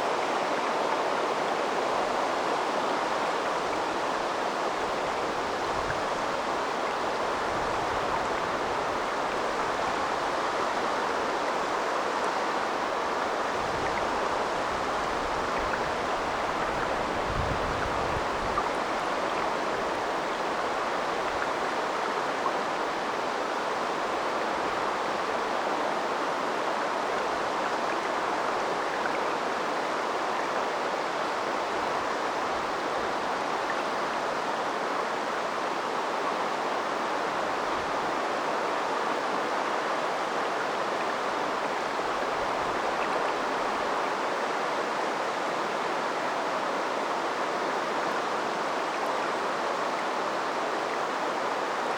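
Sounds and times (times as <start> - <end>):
river flowing: 0.0 - 51.9.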